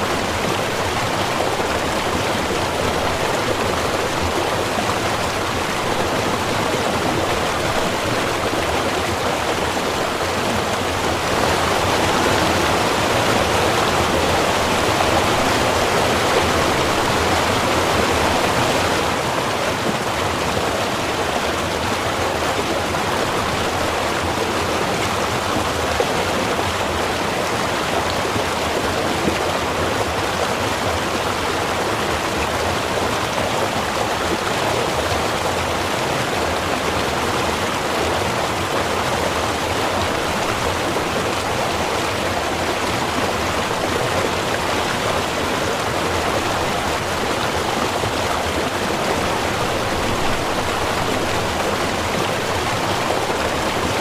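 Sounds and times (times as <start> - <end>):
small river running: 0.0 - 54.0.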